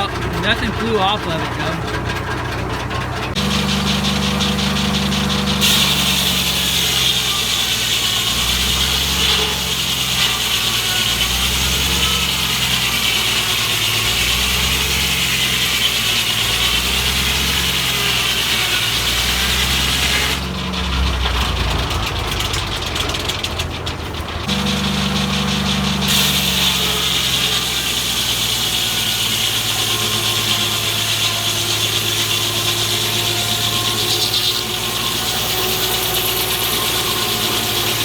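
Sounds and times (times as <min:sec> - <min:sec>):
engine running: 0:00.0 - 0:38.0
circular saw blade cutting wood: 0:03.2 - 0:38.0.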